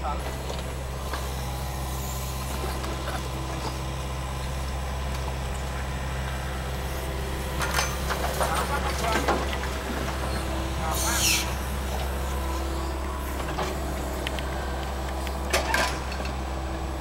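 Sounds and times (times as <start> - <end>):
diesel excavator engine running: 0.0 - 17.0.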